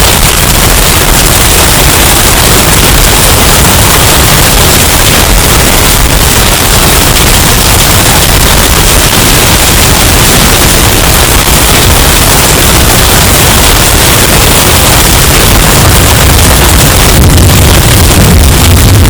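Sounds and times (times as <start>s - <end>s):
distorted hurricane wind: 0.0s - 19.0s.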